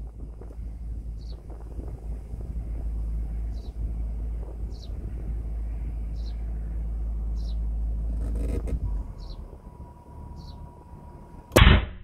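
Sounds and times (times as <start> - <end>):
wind rumble on microphone: 0.0 - 11.5
bird chirping: 0.2 - 11.5.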